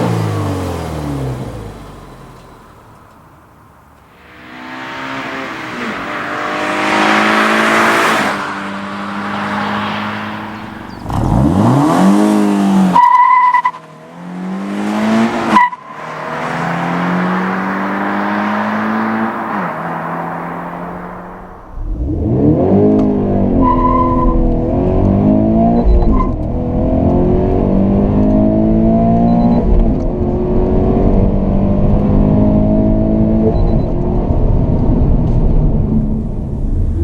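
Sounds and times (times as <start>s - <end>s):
car engine accelerating hard: 4.0s - 13.1s, 13.7s - 37.0s.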